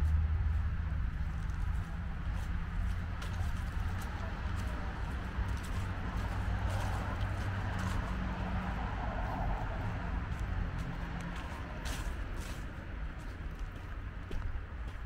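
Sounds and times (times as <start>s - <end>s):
vehicle engine hum: 0.0s - 15.0s
vehicle passing: 0.0s - 15.0s
walking footsteps: 0.0s - 15.0s.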